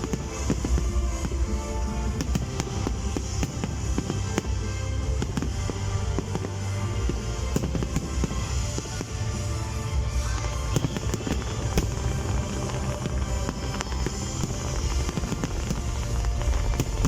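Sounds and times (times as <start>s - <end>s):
fireworks bangs: 0.0s - 17.0s
show music: 0.0s - 17.0s.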